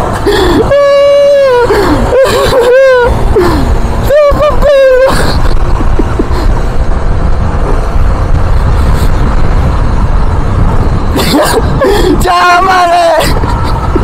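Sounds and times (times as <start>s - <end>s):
scooter engine: 0.0s - 14.0s
wind rumble on microphone: 0.0s - 14.0s.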